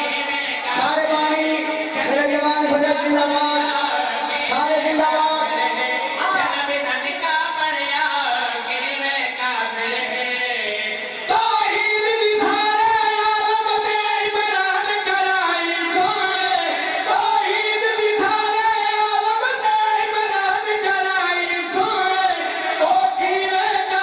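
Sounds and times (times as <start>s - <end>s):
men singing together: 0.0s - 24.0s.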